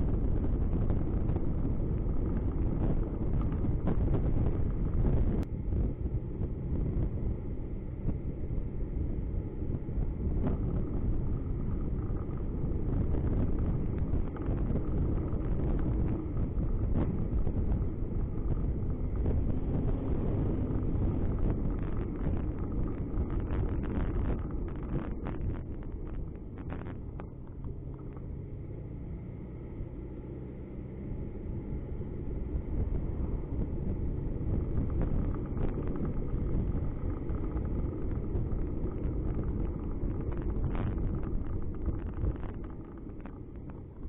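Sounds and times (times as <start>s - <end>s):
car engine and tyre noise: 0.0s - 44.0s.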